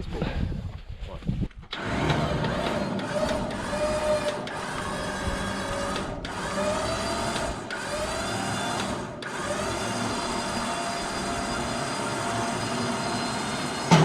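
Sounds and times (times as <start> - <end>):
electric winch motor whirring: 1.7 - 14.0.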